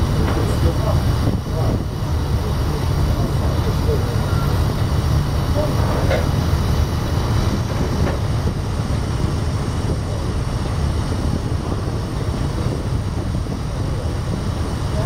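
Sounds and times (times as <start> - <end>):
ship diesel engine humming: 0.0 - 15.0
wind on microphone: 0.0 - 15.0.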